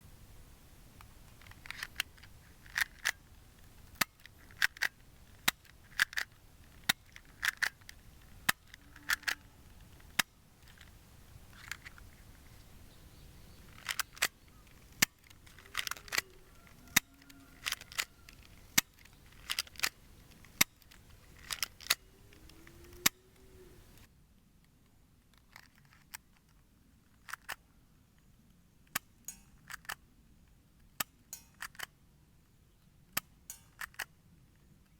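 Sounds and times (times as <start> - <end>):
airsoft pistol plastic clicks: 1.0 - 12.8, 13.6 - 30.1, 30.8 - 32.0, 33.1 - 34.9.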